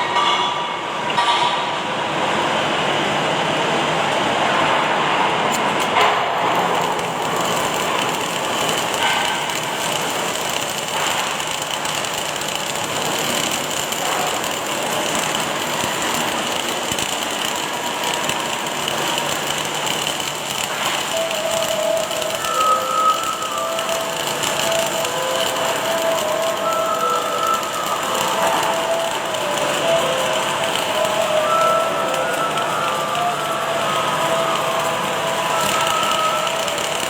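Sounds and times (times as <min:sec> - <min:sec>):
welding machinery hissing: 0:05.5 - 0:37.0
faint steady tones: 0:06.5 - 0:37.0.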